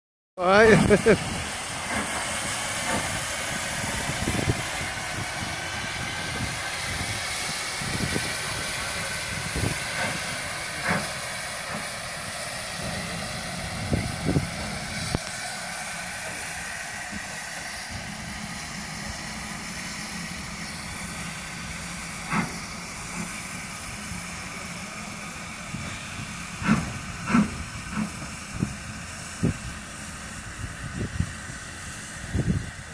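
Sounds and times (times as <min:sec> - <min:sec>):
steam hissing: 0:00.4 - 0:32.9.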